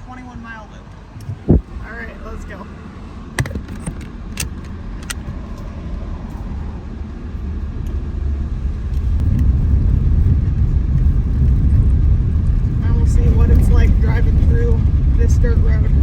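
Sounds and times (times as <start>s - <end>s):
car road rumble on dirt: 0.0s - 16.0s.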